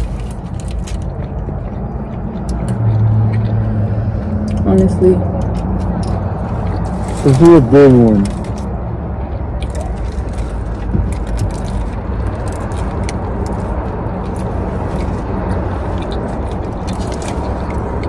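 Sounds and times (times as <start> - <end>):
person chewing: 0.0 - 8.7, 9.6 - 18.0
steady low rumble: 0.0 - 18.0.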